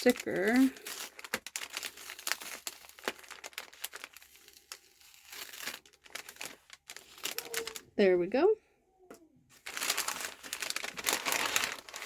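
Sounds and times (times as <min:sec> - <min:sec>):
packaging crinkling: 0:00.0 - 0:07.9, 0:09.5 - 0:12.0.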